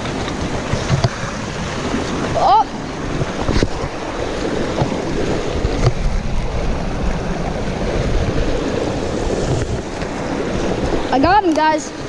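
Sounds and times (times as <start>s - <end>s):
creek rushing: 0.0s - 12.0s
wind buffeting microphone: 0.0s - 12.0s.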